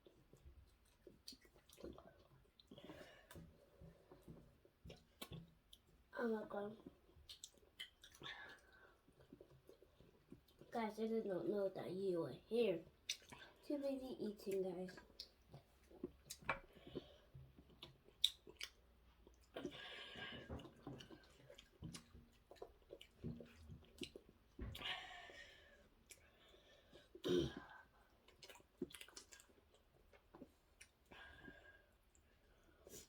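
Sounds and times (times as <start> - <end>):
person chewing: 0.0 - 6.0, 6.8 - 10.7, 13.0 - 13.6, 14.9 - 33.0.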